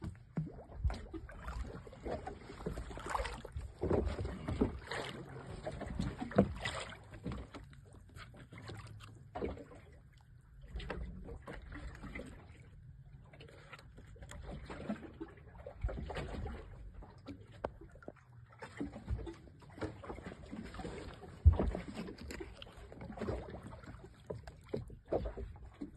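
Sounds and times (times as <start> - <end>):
water lapping against boat: 0.0 - 25.9.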